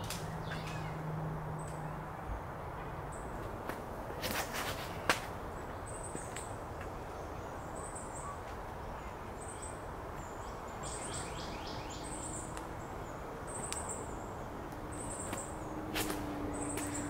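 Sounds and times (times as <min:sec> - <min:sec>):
birds chirping: 0:00.0 - 0:03.6, 0:04.2 - 0:17.0.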